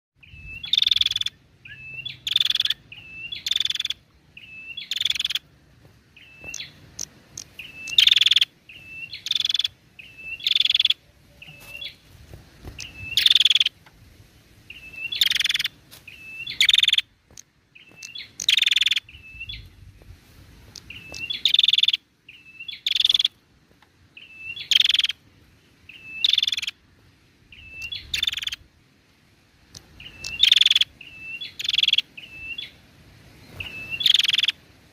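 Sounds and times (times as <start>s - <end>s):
bird calling: 0.2s - 13.8s, 14.7s - 19.8s, 20.7s - 26.9s, 27.5s - 28.7s, 29.6s - 34.7s.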